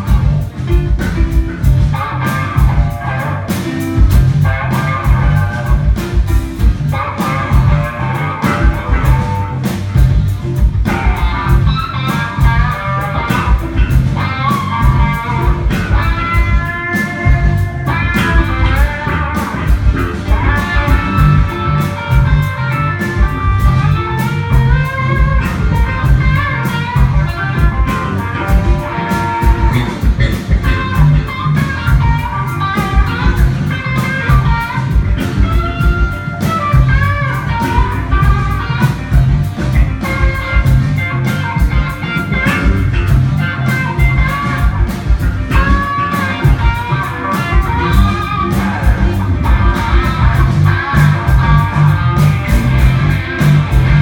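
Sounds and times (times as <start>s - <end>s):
driving bass line: 0.0s - 54.0s
lead melody line: 0.0s - 54.0s
steady drum beat: 0.0s - 54.0s.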